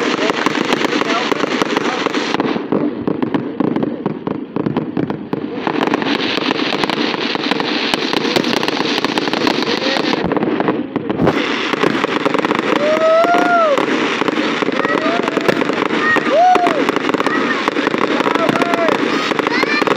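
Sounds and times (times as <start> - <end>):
fireworks crackling and banging: 0.0 - 19.9.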